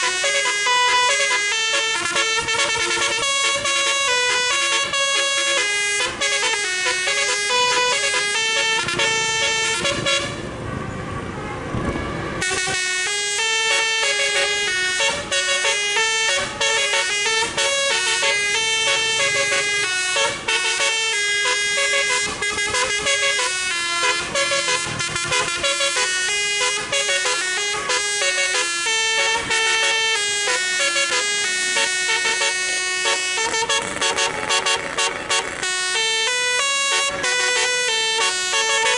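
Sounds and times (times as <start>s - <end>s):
bus air horns playing a tune: 0.0s - 10.5s, 11.9s - 38.9s.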